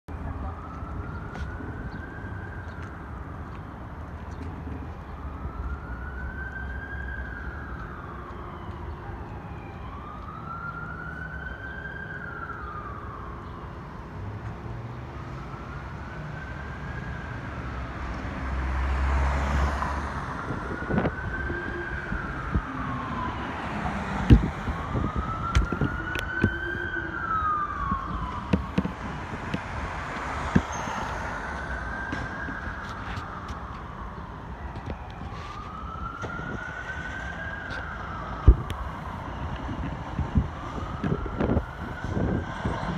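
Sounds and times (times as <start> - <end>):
emergency siren wailing: 0.1 - 42.9.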